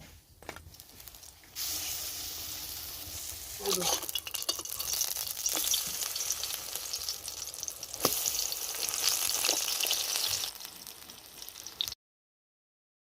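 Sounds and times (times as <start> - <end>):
food sizzling in hot oil: 0.7 - 12.0.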